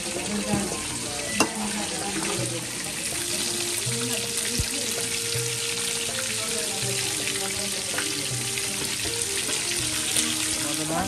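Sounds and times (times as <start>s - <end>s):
food sizzling in pan: 0.0s - 11.0s
soft background music: 0.0s - 11.0s.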